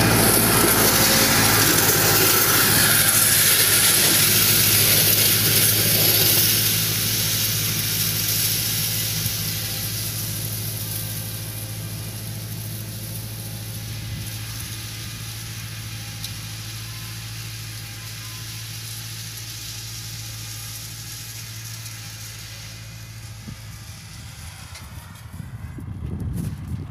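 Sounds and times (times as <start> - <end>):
steady hiss: 0.0 - 24.6
tractor diesel engine running: 0.0 - 26.9.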